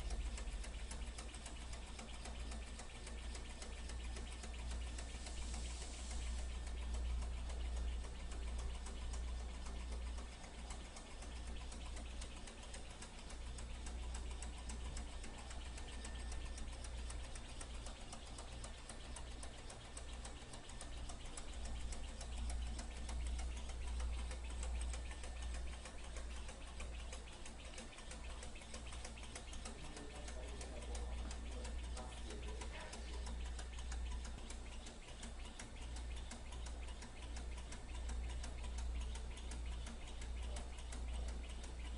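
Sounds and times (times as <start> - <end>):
small engine rapid ticking: 0.0 - 41.9.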